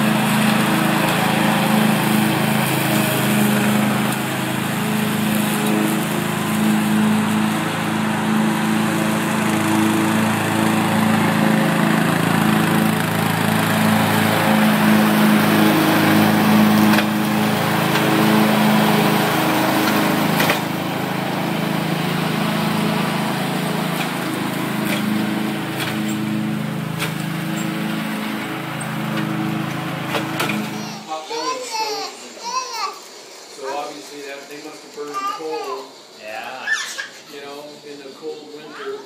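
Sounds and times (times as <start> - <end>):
small engine running: 0.0 - 39.0.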